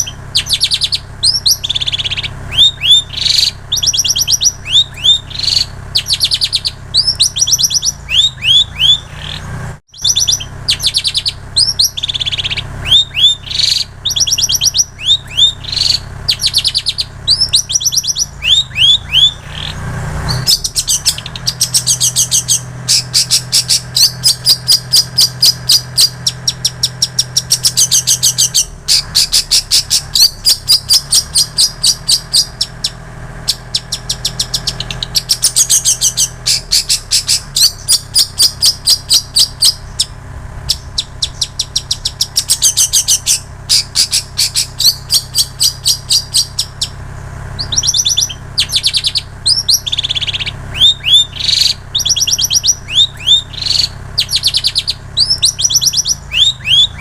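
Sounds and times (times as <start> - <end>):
low steady hum: 0.0 - 57.0
shrike singing: 0.0 - 57.0.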